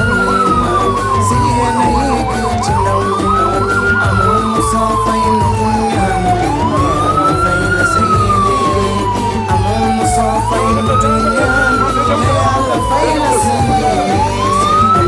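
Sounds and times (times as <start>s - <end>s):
steady low din: 0.0s - 15.0s
vehicle siren wailing: 0.0s - 15.0s.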